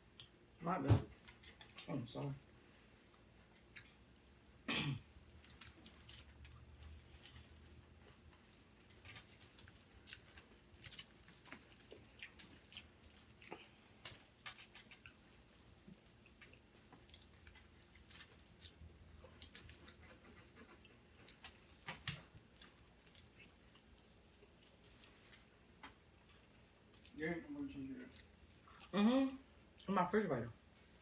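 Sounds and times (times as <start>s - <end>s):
person chewing food: 2.6s - 4.4s, 5.0s - 29.9s.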